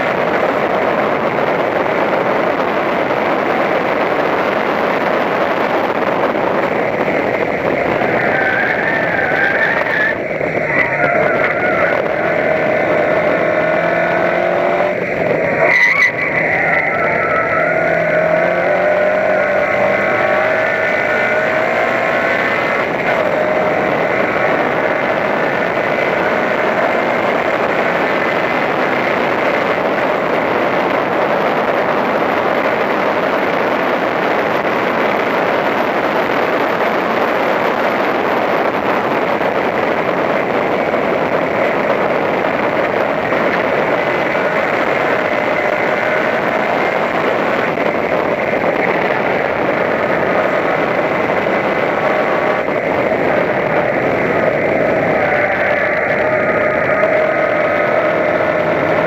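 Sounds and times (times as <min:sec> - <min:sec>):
race car engine at full throttle: 0:00.0 - 0:59.0
wind and road noise: 0:00.0 - 0:59.0.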